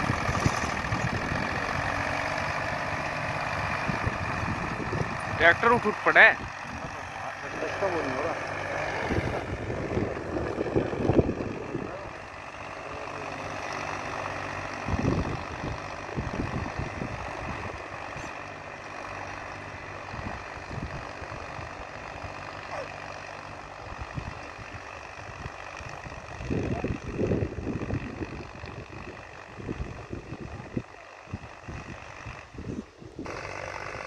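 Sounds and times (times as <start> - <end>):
wind gusts on microphone: 0.0 - 12.8, 13.9 - 18.4, 19.2 - 22.6, 23.8 - 33.3
tractor diesel engine under load: 0.0 - 34.0.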